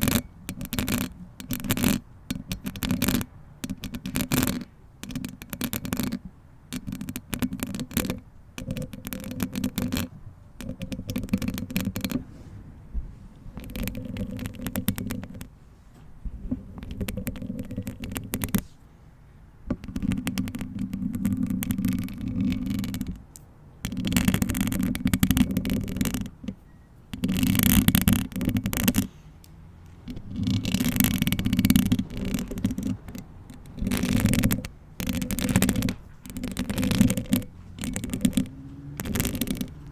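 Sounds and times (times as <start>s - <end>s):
hands rubbing microphone: 0.0s - 18.9s, 19.7s - 39.9s.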